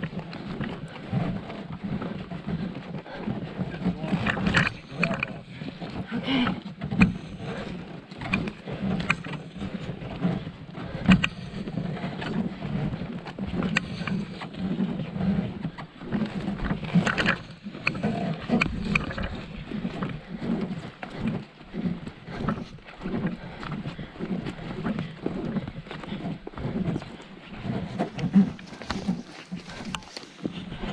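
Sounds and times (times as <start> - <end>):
paddle strokes: 0.0 - 30.9
water sloshing against hull: 0.0 - 30.9.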